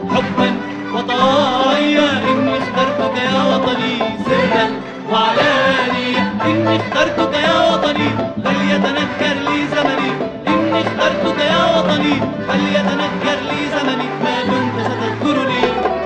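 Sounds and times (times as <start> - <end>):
fast plucked strings: 0.0 - 16.0
low repeating bass: 0.0 - 16.0.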